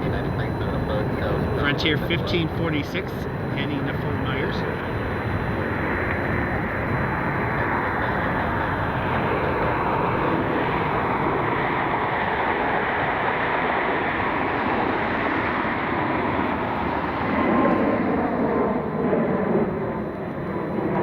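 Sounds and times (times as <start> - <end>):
jet engines at takeoff thrust: 0.0 - 21.0.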